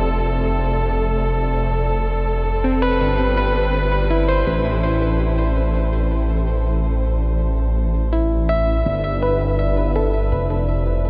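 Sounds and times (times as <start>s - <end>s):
slow ambient synthesizer music: 0.0s - 11.0s.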